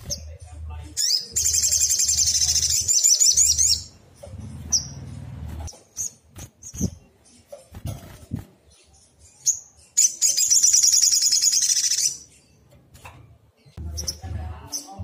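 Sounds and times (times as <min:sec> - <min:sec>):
bird twittering chirps: 0:00.0 - 0:12.7.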